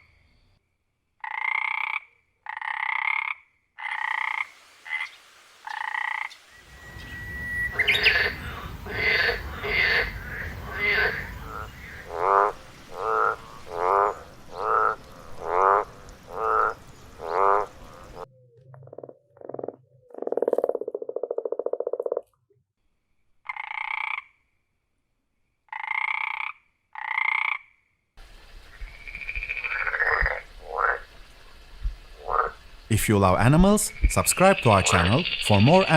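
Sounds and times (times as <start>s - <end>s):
frogs croaking: 1.2s - 22.3s, 23.4s - 24.6s, 25.7s - 35.9s
high two-toned frog calls: 1.2s - 22.4s, 23.4s - 24.6s, 25.7s - 28.0s, 28.7s - 31.2s, 32.2s - 32.6s, 33.8s - 35.9s.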